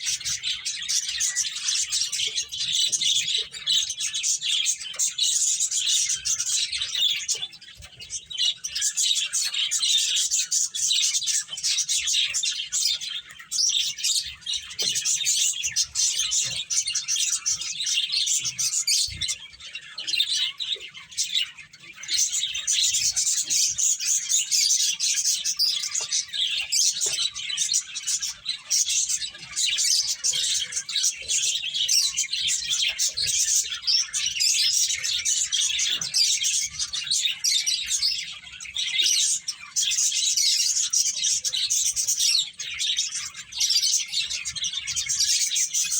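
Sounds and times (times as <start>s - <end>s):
finches chirping: 0.0s - 45.9s.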